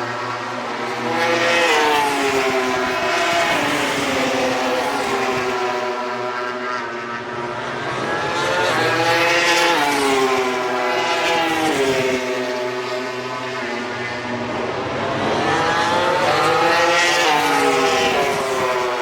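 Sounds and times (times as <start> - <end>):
racing motorcycle engines revving: 0.0 - 19.0.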